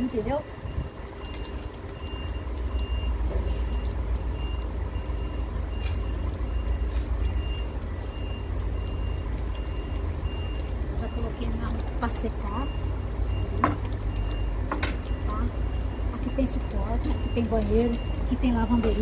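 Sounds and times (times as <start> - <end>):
diesel engine rumble: 0.0 - 19.0
truck reversing alarm beeping: 0.0 - 19.0.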